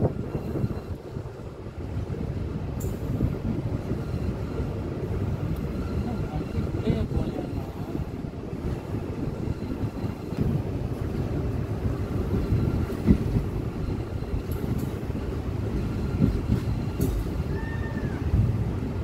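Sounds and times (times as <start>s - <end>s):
train knocks and clatter: 0.0s - 19.0s
train wheels rumbling on rails: 0.0s - 19.0s.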